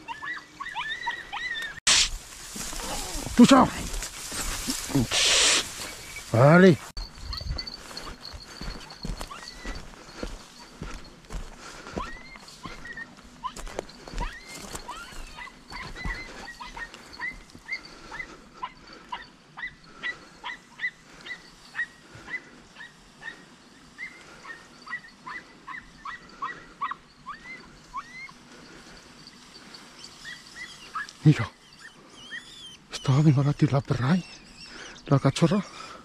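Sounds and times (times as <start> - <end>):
hounds yelping: 0.0 - 36.0.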